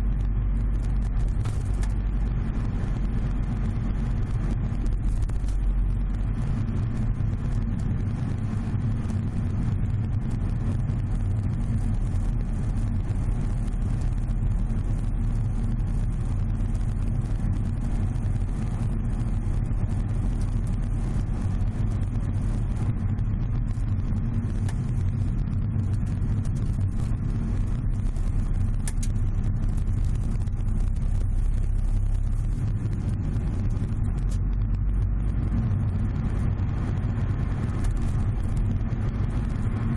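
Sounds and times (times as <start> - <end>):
faint crackling ticks: 0.0 - 39.9
road and drivetrain rumble: 0.0 - 39.9.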